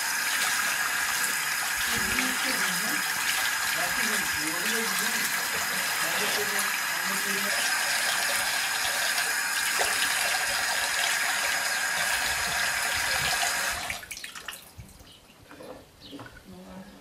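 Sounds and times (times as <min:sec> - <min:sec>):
man washing face: 0:00.0 - 0:14.6
tap water running into sink: 0:00.0 - 0:14.6.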